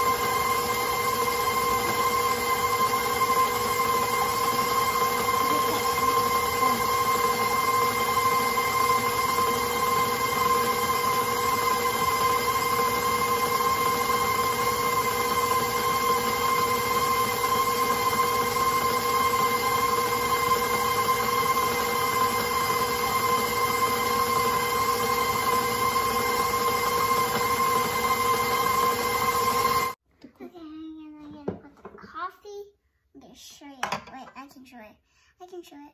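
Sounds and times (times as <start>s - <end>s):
beater churning dough: 0.0s - 30.0s
stand mixer motor whining: 0.0s - 30.0s.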